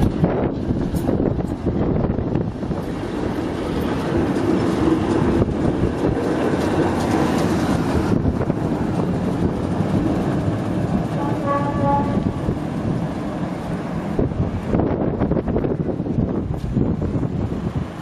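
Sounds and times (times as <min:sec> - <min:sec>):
rail clatter: 0:00.0 - 0:18.0
tram rumbling past on rails: 0:00.0 - 0:18.0.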